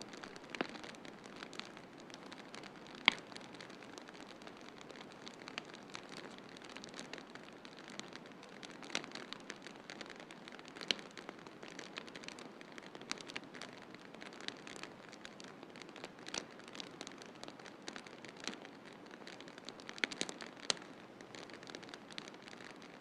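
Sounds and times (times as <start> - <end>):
sharp pops and snaps: 0.0 - 13.5, 14.2 - 22.9
soft steady hiss: 0.0 - 23.0
wood fire crackling: 0.0 - 23.0.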